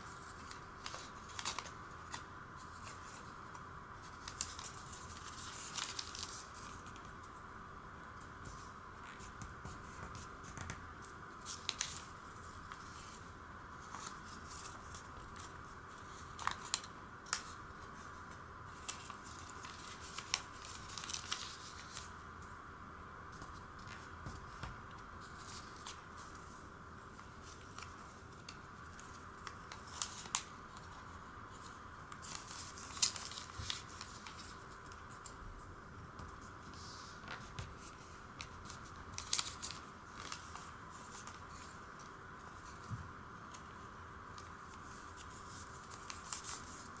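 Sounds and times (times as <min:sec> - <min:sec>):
paper crackling and rustling: 0:00.0 - 0:07.4, 0:08.2 - 0:22.2, 0:23.3 - 0:35.4, 0:36.2 - 0:47.0.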